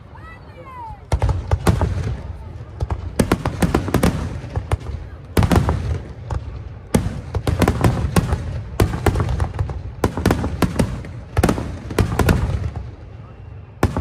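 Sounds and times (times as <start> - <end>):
fireworks bangs: 0.7 - 14.0.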